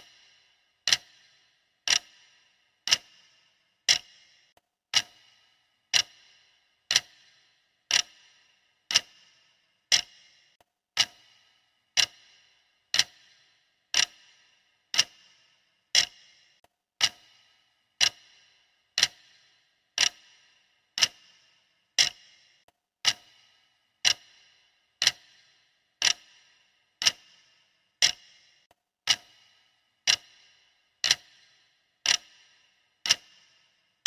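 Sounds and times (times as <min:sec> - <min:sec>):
clock ticking: 0:00.0 - 0:34.0.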